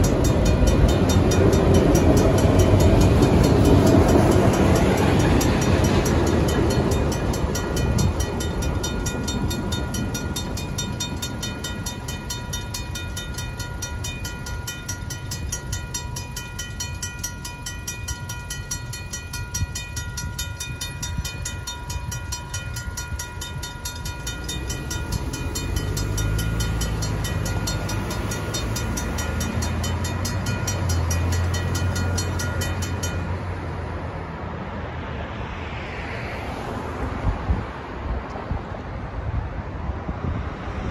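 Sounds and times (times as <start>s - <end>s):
crossing bell ringing: 0.0s - 34.2s
car engines humming: 0.0s - 39.0s
low rumble of train: 0.0s - 40.9s.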